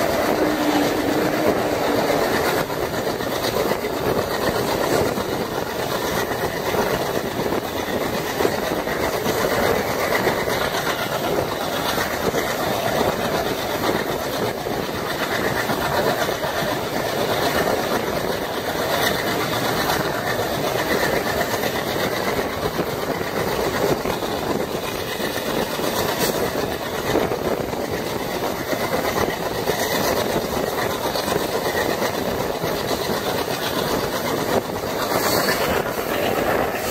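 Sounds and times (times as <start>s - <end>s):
train rumble: 0.0s - 36.9s
wheels clicking over rail joints: 0.0s - 36.9s.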